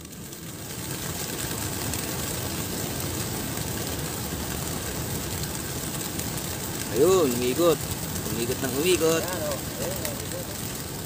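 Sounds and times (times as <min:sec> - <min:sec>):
pigeon wings flapping: 0:00.0 - 0:11.0.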